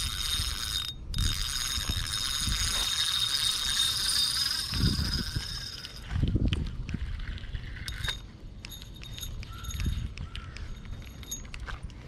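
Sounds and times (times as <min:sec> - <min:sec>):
fishing reel whirring: 0:00.0 - 0:11.5.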